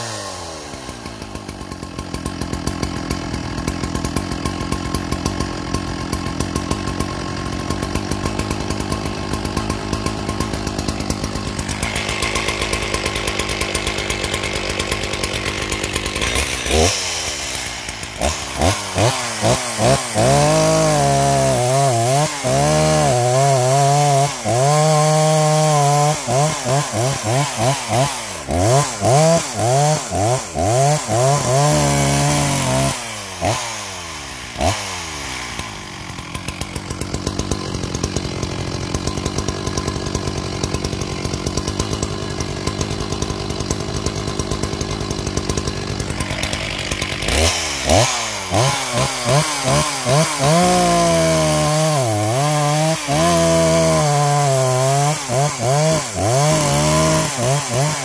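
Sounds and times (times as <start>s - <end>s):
chainsaw idling: 0.0s - 58.0s
chainsaw revving: 0.0s - 58.0s.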